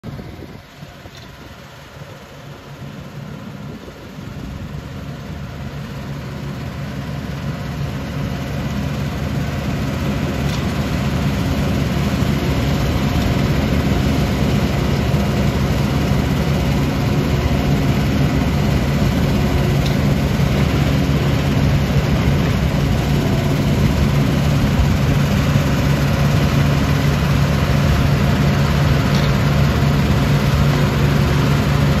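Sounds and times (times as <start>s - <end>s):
heavy diesel machinery humming: 0.0s - 32.0s.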